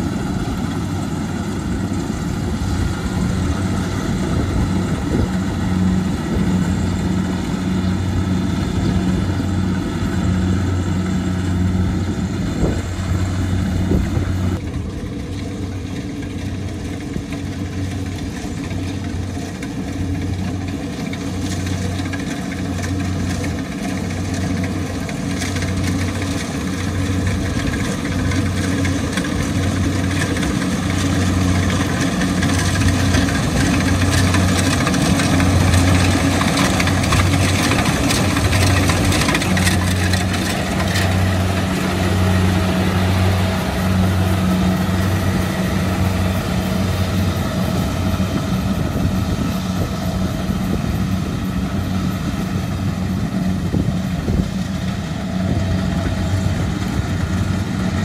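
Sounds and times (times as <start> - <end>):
combine harvester diesel engine drone: 0.0 - 58.0.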